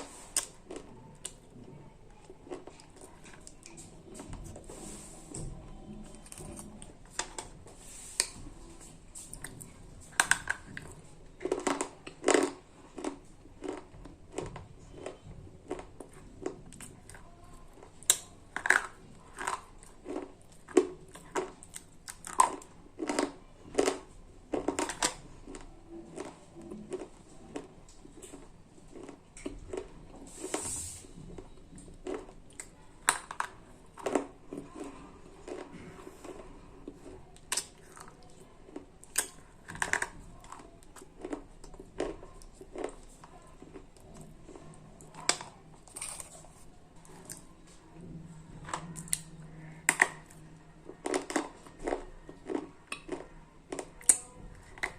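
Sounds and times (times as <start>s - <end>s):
dry crunches of chewing: 9.1s - 30.6s, 31.4s - 47.8s, 48.6s - 54.9s.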